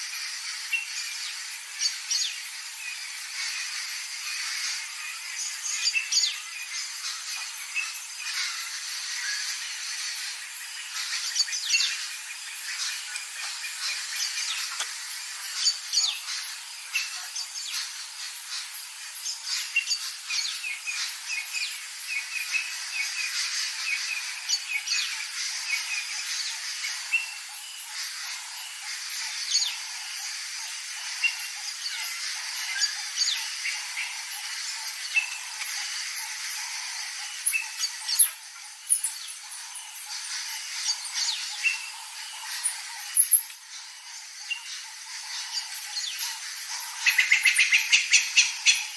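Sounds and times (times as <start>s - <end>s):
birds calling and chirping: 0.0s - 48.9s
insects chirping: 0.0s - 48.9s.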